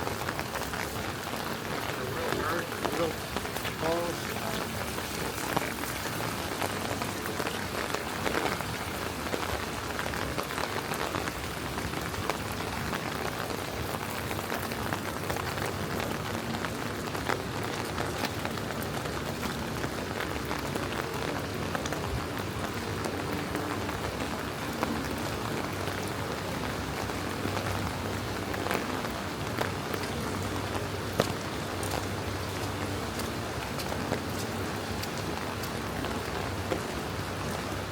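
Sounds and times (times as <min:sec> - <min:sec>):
steady rain on streets: 0:00.0 - 0:37.9.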